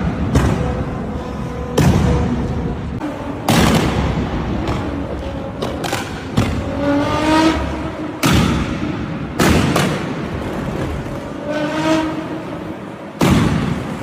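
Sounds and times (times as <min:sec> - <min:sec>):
sports car exhaust revving: 0:00.0 - 0:14.0.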